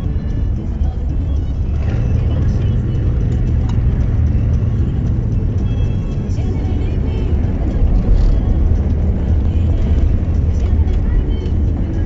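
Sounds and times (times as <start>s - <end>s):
car driving on gravel road: 0.0s - 12.0s.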